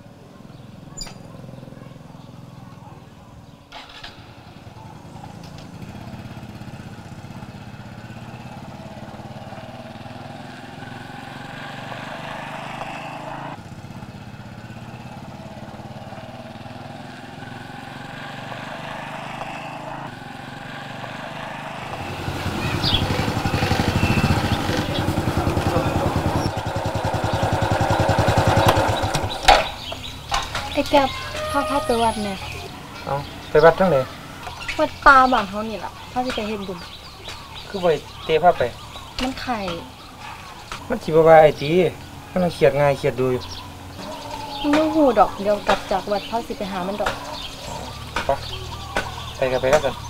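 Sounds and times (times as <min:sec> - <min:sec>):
small motorcycle engine running: 0:00.0 - 0:50.0.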